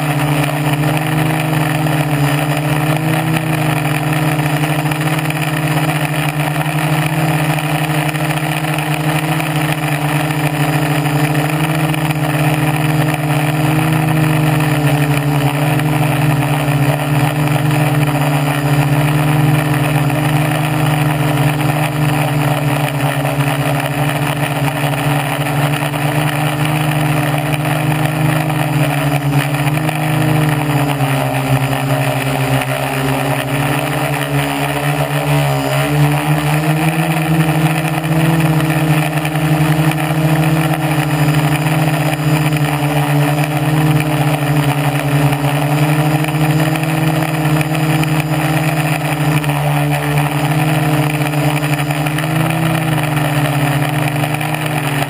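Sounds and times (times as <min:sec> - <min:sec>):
drone motors and propellers whirring: 0:00.0 - 0:55.0.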